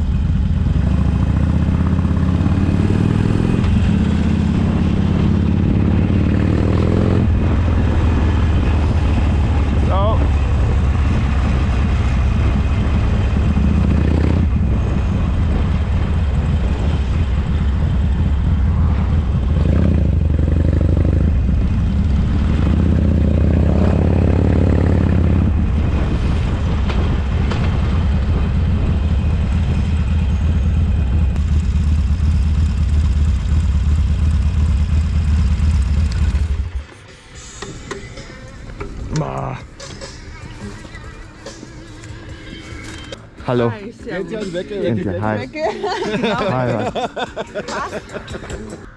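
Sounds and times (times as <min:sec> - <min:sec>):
motorcycle engine rumbling: 0:00.0 - 0:44.5.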